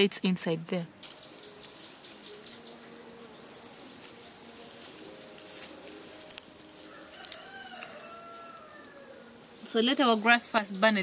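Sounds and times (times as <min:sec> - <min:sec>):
insects buzzing: 0:00.0 - 0:11.0
bird chirping: 0:00.5 - 0:11.0
dry grass crackling: 0:01.0 - 0:11.0.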